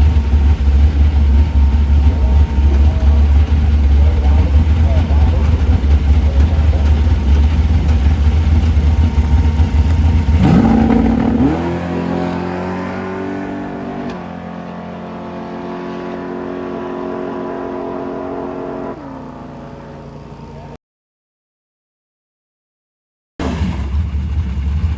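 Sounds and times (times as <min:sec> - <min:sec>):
drag racing car engine revving: 0:00.0 - 0:20.7, 0:23.4 - 0:24.9.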